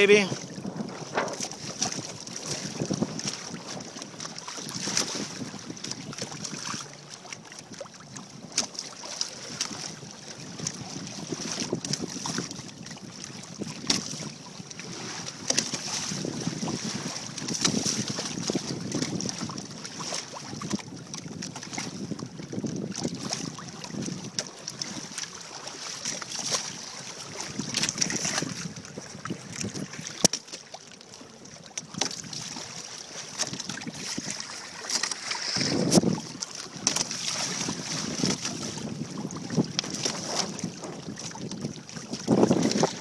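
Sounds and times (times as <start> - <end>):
wind buffeting microphone: 0.0 - 8.6, 9.4 - 25.1, 26.3 - 30.2, 35.4 - 43.0
water splashing along hulls: 0.0 - 43.0.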